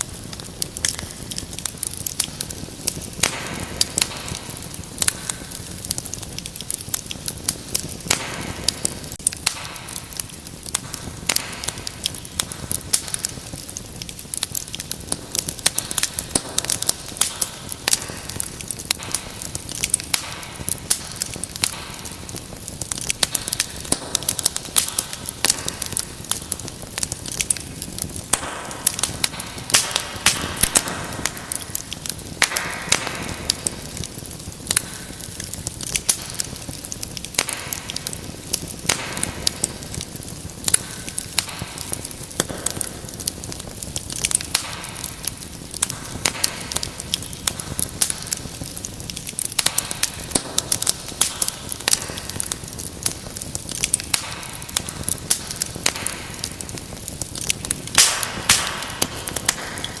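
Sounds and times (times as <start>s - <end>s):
low rush of flames: 0.0s - 60.0s
wood fire crackling and popping: 0.0s - 60.0s.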